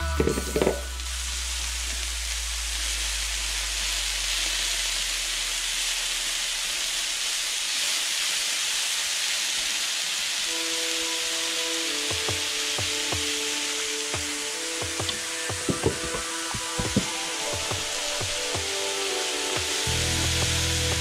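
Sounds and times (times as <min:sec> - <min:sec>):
mushrooms sizzling in a skillet: 0:00.0 - 0:21.0.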